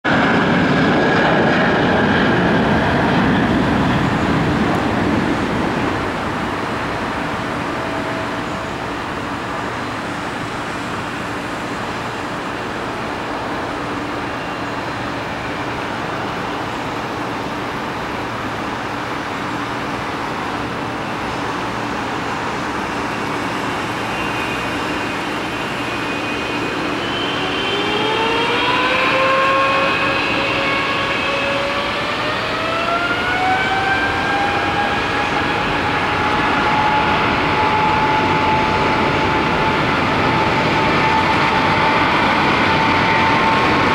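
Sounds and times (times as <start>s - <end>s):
jet engine fan whine: 0.0s - 43.9s
jet engine roar on takeoff: 0.0s - 43.9s
jet engines rumbling: 0.0s - 43.9s.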